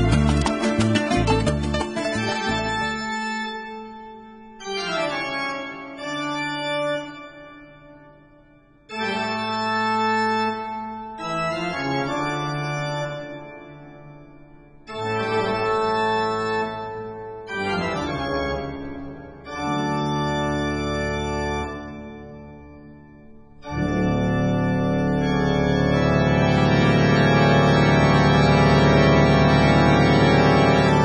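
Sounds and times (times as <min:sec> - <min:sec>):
organ chords: 0:00.0 - 0:31.0.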